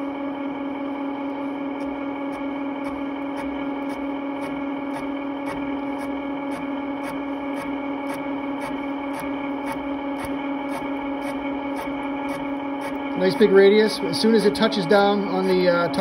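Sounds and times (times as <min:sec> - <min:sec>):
valve-seat cutter whining: 0:00.0 - 0:16.0.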